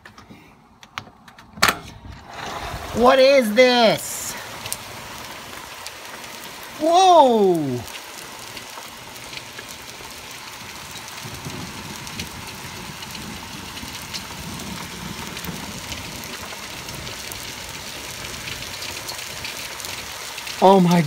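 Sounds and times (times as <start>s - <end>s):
hailstones hissing and ticking: 2.2s - 21.0s.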